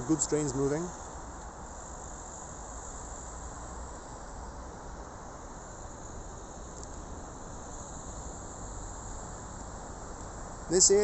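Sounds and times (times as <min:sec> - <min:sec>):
distant traffic rumble: 0:00.0 - 0:11.0
high steady hiss: 0:00.0 - 0:11.0.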